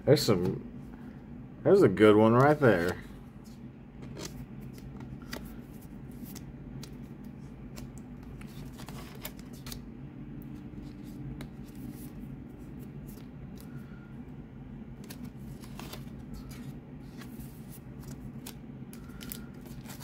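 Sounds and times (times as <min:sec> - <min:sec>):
steady low hum: 0:00.0 - 0:20.0
cards and sleeves rustling: 0:01.9 - 0:14.1, 0:14.9 - 0:20.0.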